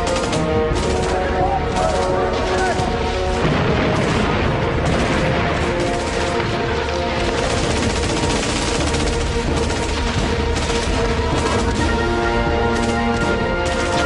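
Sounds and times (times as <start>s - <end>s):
rapid gunfire: 0.0s - 14.0s.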